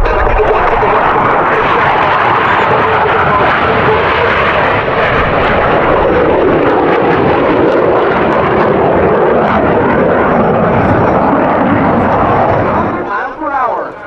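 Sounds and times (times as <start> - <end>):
jet engines roaring overhead: 0.0 - 14.0.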